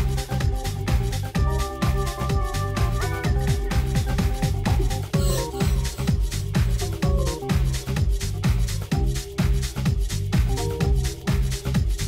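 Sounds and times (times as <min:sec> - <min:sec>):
house music: 0:00.0 - 0:12.0.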